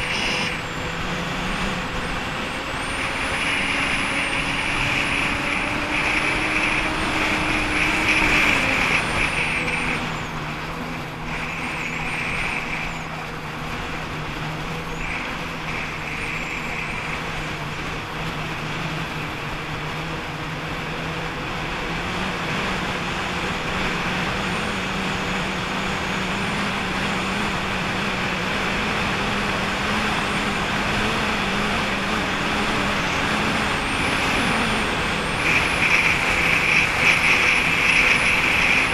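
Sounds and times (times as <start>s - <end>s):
jet ski engine running: 1.9s - 23.1s, 26.4s - 38.9s.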